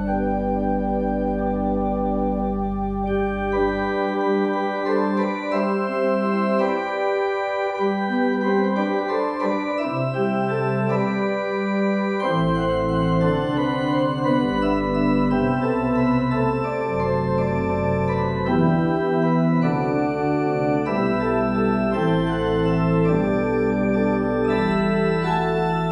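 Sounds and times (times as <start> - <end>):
organ playing slow chords: 0.0 - 25.9.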